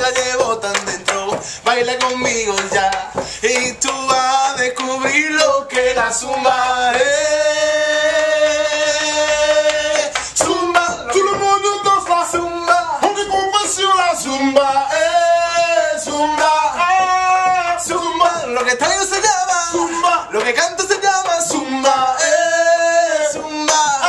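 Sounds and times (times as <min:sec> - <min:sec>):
men singing together: 0:00.0 - 0:24.0.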